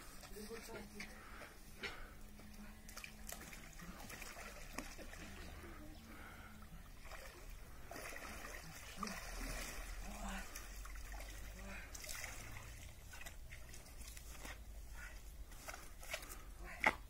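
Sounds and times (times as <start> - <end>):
water sloshing in paddling pool: 0.0 - 16.4.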